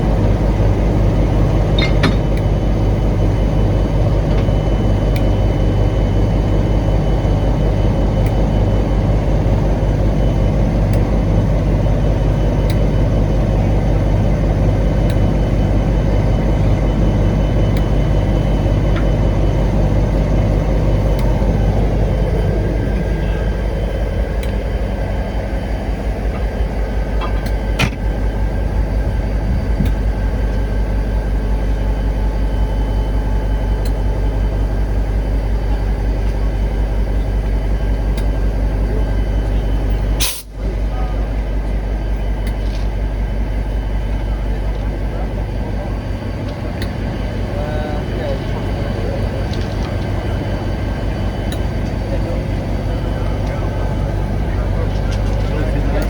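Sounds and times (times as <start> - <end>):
locomotive engine idling: 0.0 - 56.0.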